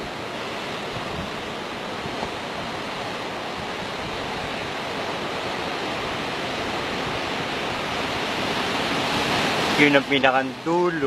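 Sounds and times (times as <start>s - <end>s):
sea waves on shore: 0.0s - 11.0s.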